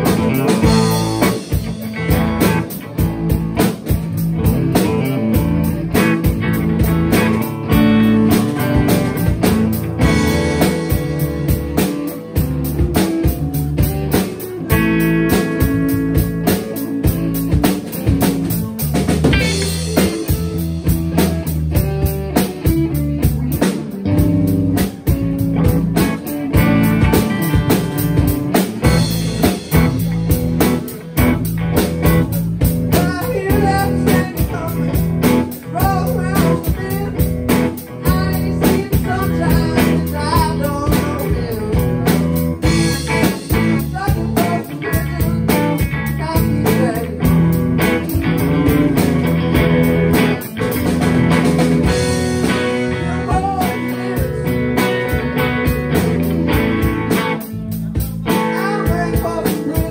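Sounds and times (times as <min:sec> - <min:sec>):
bending lead guitar lines: 0:00.0 - 0:59.9
live blues band playing: 0:00.0 - 0:59.9.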